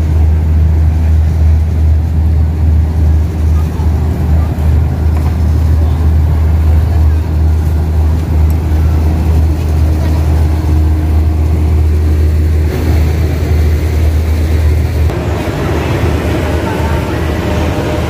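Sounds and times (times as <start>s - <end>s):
loud low rumble: 0.0s - 18.0s.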